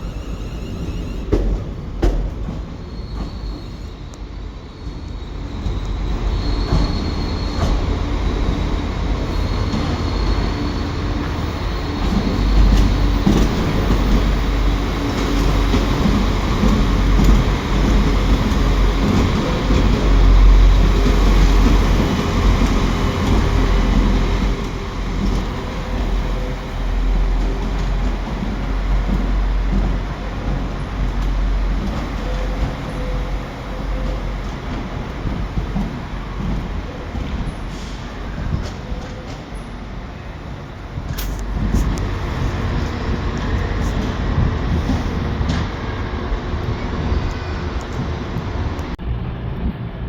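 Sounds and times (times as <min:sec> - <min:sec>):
train rumbling through station: 0:00.0 - 0:50.0.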